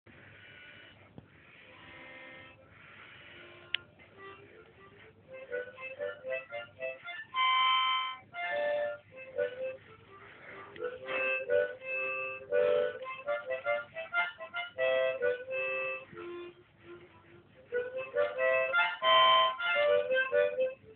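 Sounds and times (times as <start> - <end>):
harmonica runs: 0.2 - 20.9.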